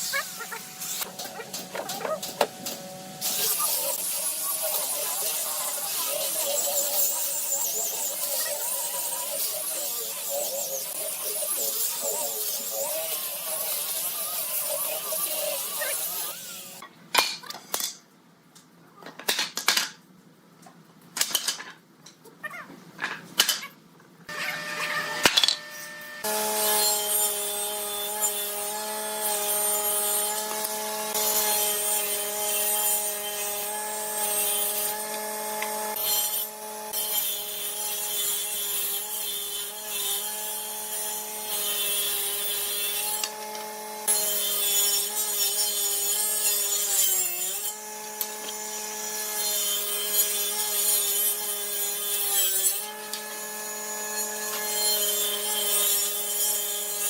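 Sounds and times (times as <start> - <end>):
power tool cutting wood: 0.0 - 16.8, 24.3 - 57.0.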